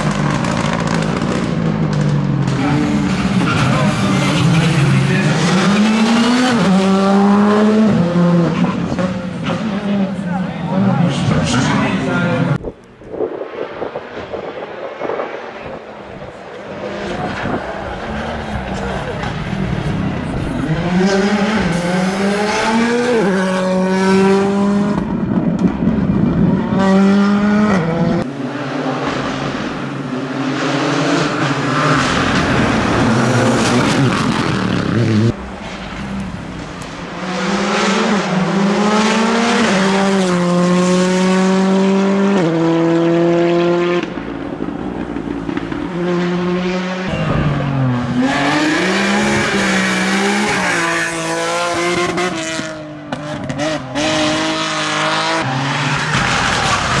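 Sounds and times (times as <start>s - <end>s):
rally car engines at full throttle: 0.0s - 57.0s.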